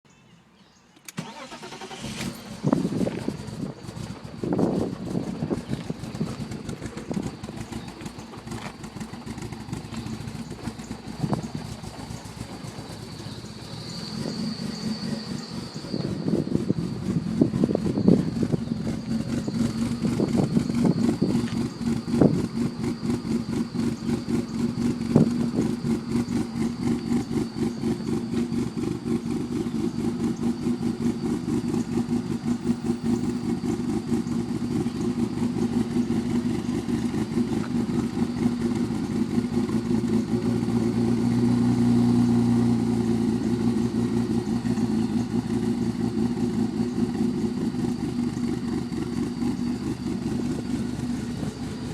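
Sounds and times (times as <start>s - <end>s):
car engine idling: 1.1s - 51.9s.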